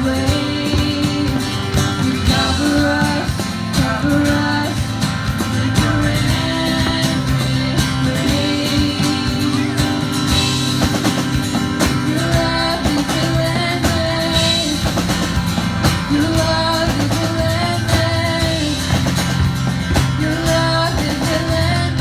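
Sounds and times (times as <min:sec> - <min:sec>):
singing: 0:00.0 - 0:11.0, 0:11.8 - 0:19.4, 0:20.0 - 0:22.0
drums: 0:00.0 - 0:22.0.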